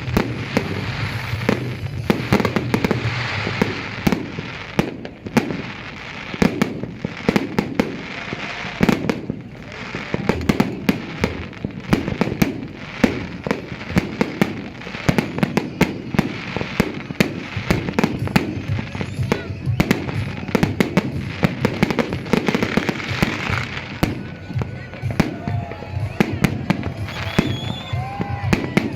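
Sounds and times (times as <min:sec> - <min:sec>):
fireworks bangs and cracks: 0:00.0 - 0:28.9
fireworks crackling and rumbling: 0:00.0 - 0:28.9.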